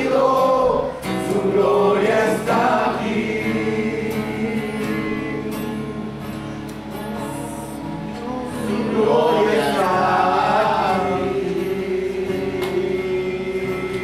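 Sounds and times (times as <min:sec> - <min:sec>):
acoustic guitar: 0:00.0 - 0:14.0
group singing worship song: 0:00.0 - 0:14.0.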